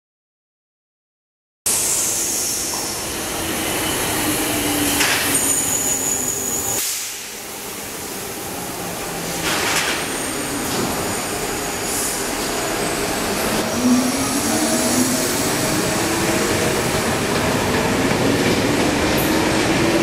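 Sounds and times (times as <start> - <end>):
train wheels rumbling on rails: 2.2 - 20.0.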